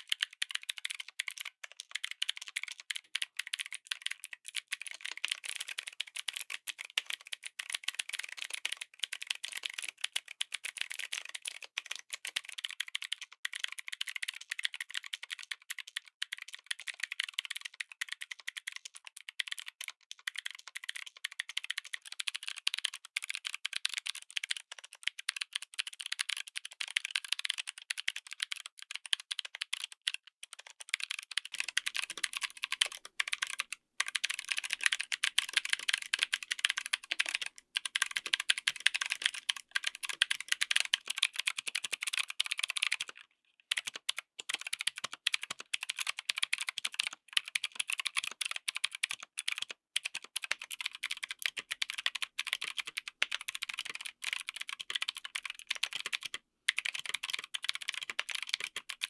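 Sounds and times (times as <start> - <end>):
clicky mechanical keyboard typing: 0.0 - 59.0.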